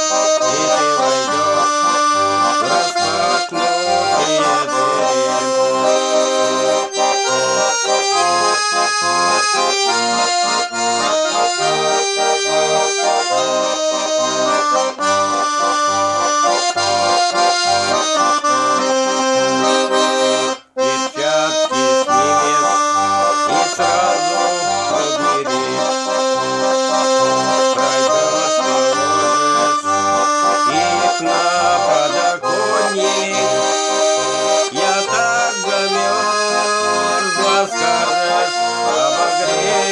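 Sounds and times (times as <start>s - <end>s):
button accordion playing folk tune: 0.0s - 39.9s.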